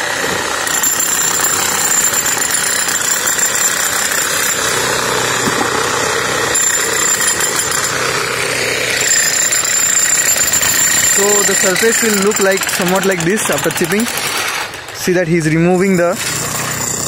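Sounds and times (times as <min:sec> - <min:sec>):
demolition hammer chipping concrete: 0:00.0 - 0:17.0.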